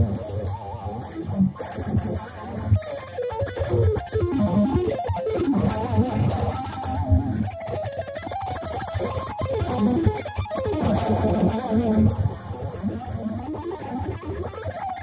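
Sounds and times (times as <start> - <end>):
electric guitar lead: 0.0 - 15.0.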